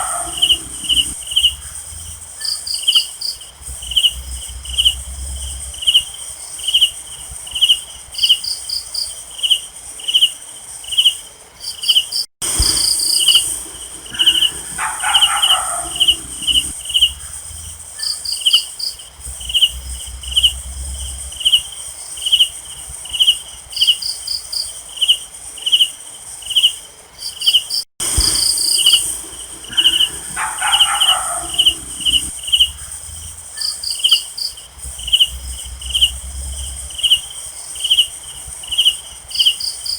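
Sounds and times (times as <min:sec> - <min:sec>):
crickets chirping: 0:00.0 - 0:39.9
high insect hiss: 0:00.0 - 0:39.9.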